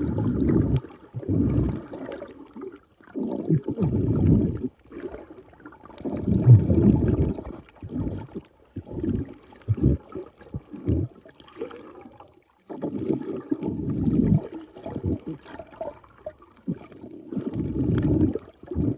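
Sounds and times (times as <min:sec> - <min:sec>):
muffled underwater sloshing: 0:00.0 - 0:18.9.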